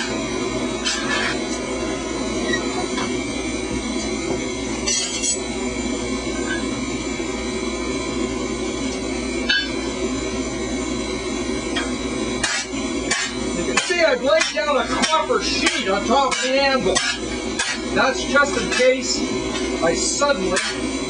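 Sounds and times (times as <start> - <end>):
low rushing workshop noise: 0.0 - 21.0.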